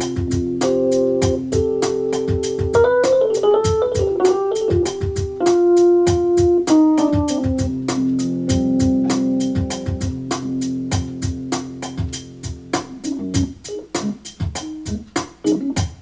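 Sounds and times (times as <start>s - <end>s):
electronic organ-like keyboard music: 0.0s - 16.0s
steady ticking beat: 0.0s - 16.0s.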